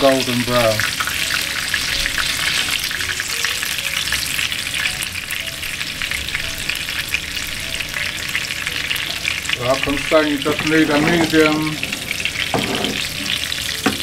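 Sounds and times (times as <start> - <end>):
fish fillets sizzling in oil: 0.0 - 14.0.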